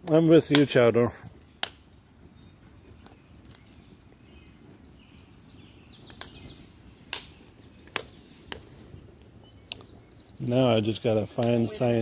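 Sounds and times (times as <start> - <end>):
burning wood crackling and popping: 0.0 - 12.0
flames fluttering: 0.0 - 12.0.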